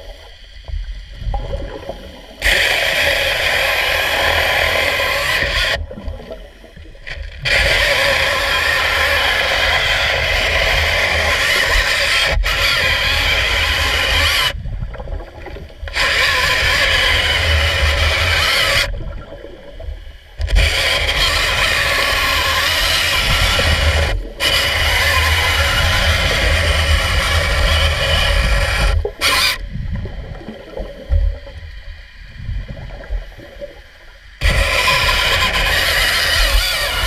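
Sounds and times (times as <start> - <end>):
chainsaw cutting wood underwater: 0.0 - 37.0.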